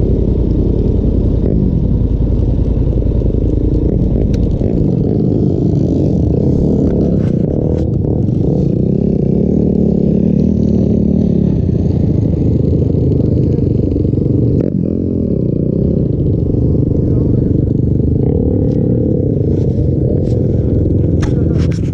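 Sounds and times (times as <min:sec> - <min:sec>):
off-road vehicle engine revving: 0:00.0 - 0:21.9.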